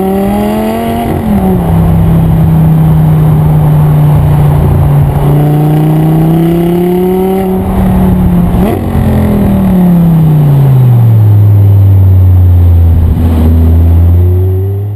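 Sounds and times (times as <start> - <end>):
sports car engine revving: 0.0 - 14.9.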